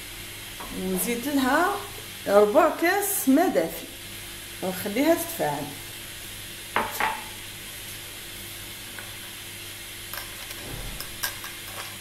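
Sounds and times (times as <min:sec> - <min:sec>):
background hiss and hum: 0:00.0 - 0:12.0.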